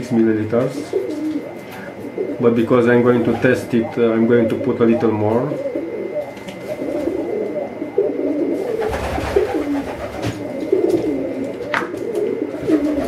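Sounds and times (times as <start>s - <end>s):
pigeon cooing: 0.0s - 13.0s.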